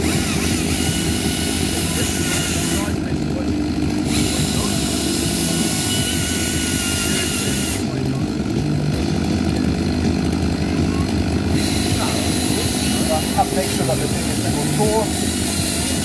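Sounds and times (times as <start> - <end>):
chainsaw carving wood: 0.0 - 16.0.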